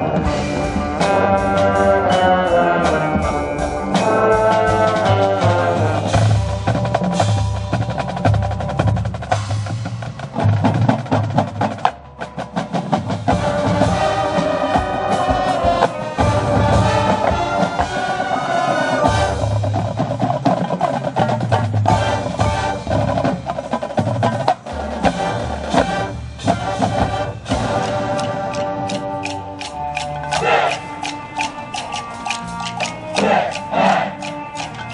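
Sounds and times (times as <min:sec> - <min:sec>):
drum and percussion hits: 0:00.0 - 0:34.9
marching band playing: 0:00.0 - 0:34.9
wind instruments holding chords: 0:00.0 - 0:34.9.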